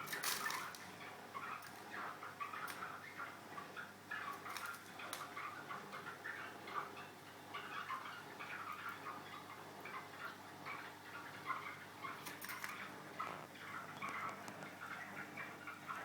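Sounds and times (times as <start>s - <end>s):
canary twittering: 0.0s - 16.0s.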